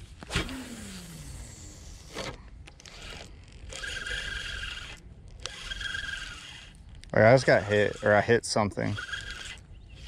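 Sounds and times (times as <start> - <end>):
reel whir: 0.1 - 10.0
reel gear whine: 0.3 - 10.0.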